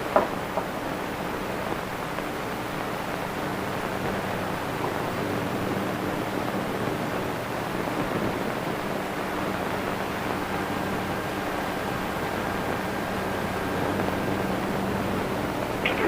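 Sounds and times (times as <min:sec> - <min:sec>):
film soundtrack hiss and hum: 0:00.0 - 0:16.0.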